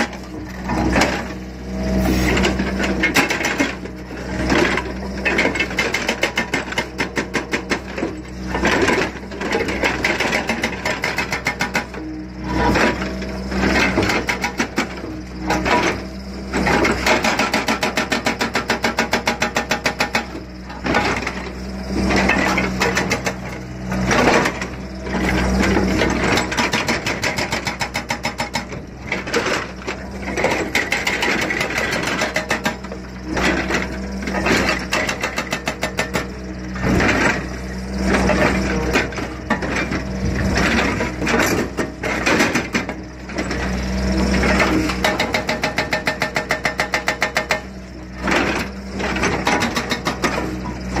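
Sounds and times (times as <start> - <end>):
excavator engine running: 0.0 - 51.0
hydraulic breaker hammering rock: 0.0 - 51.0.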